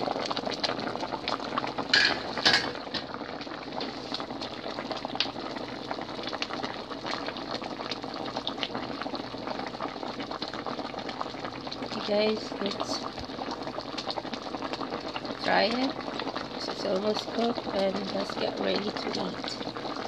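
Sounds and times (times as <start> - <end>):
soup bubbling at a rolling boil: 0.0 - 20.0.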